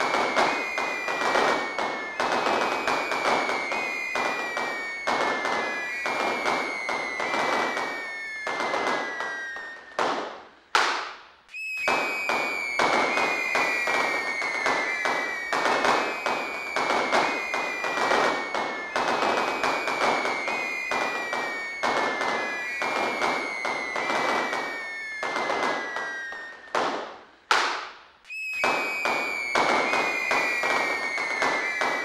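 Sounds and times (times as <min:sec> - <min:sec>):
falling firework whistles: 0:00.0 - 0:32.0
fireworks crackling and banging: 0:00.0 - 0:32.0.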